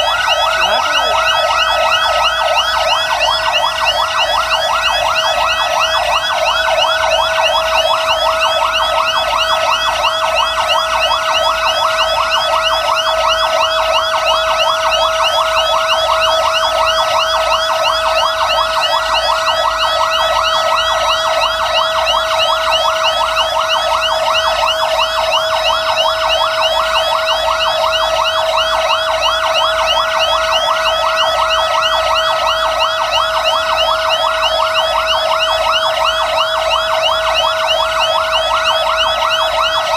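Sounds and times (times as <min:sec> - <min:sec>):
fire truck sirens: 0:00.0 - 0:39.9.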